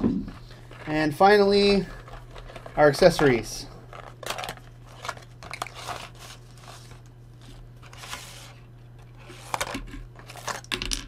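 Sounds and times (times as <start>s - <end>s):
low steady hum: 0.0s - 11.0s
plastic packaging rustling: 0.4s - 10.8s.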